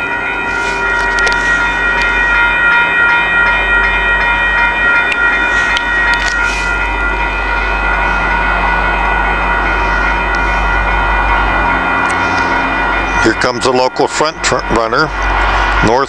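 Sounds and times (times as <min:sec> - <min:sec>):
diesel locomotive drone: 0:00.0 - 0:16.0
whining tones: 0:00.0 - 0:16.0.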